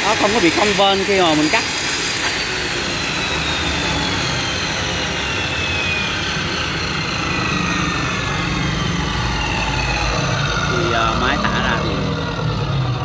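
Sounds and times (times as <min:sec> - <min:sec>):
cut-off saw winding down whine: 0:00.0 - 0:13.0
low rumble: 0:01.6 - 0:13.0.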